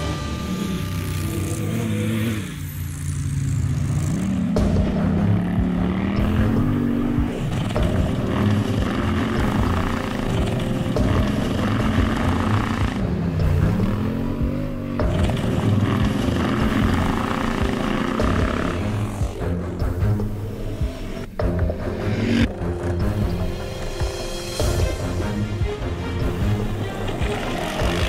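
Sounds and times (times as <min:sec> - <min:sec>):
quad bike engine revving: 0:00.0 - 0:24.0, 0:26.4 - 0:28.0.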